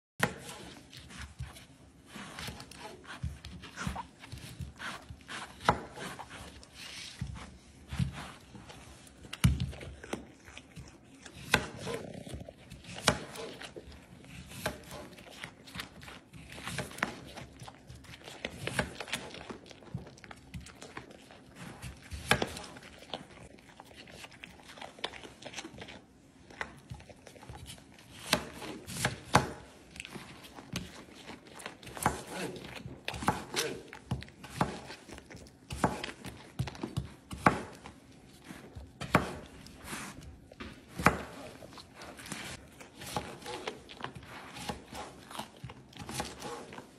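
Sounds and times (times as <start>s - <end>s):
knife cutting on cutting mat: 0.2s - 19.6s, 26.6s - 46.9s
deer crunching food: 0.4s - 46.9s.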